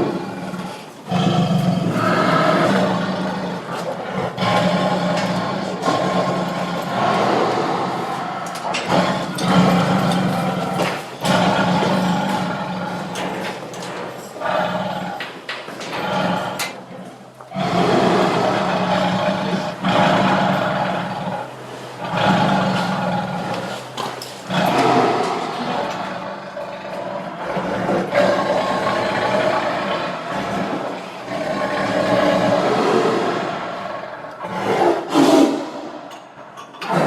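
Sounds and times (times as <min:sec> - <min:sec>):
tiger growling and roaring: 0:00.0 - 0:37.0.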